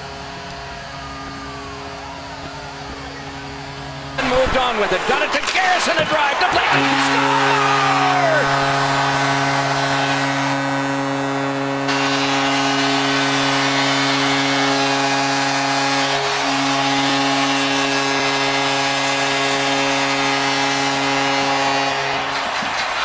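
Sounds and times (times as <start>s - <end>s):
crowd cheering: 0.0s - 23.0s
goal horn long blast: 0.0s - 23.0s.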